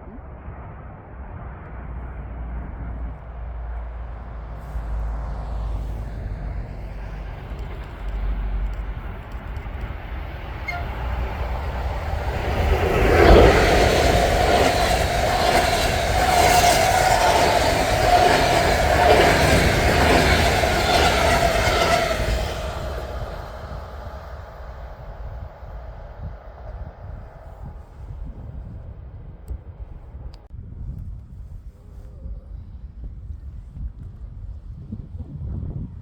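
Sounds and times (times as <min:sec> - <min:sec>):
train passing close by: 0:00.4 - 0:30.4.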